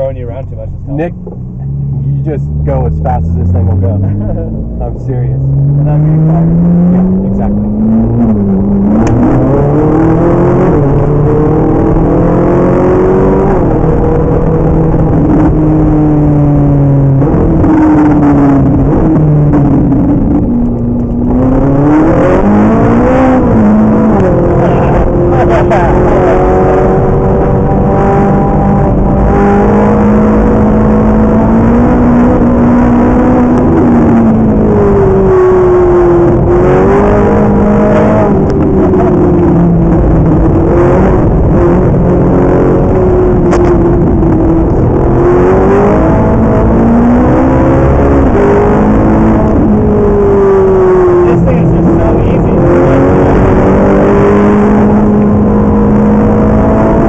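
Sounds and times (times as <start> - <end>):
sports car engine revving: 0.0 - 57.0.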